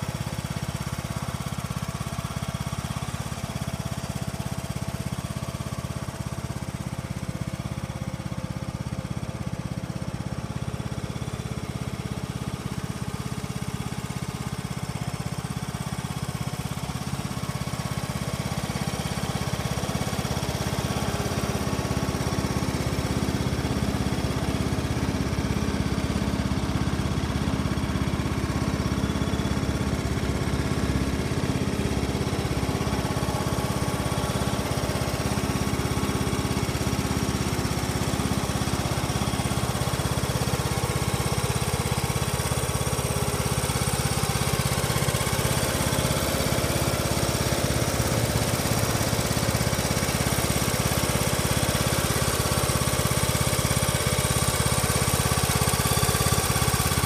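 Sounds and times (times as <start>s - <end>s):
riding lawn mower engine idling: 0.0s - 57.0s.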